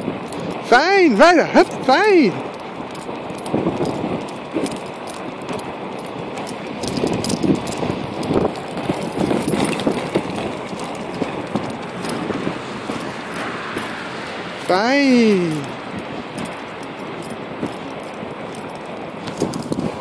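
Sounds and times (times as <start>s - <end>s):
inline skates rolling on asphalt: 0.0s - 14.7s, 15.7s - 20.0s.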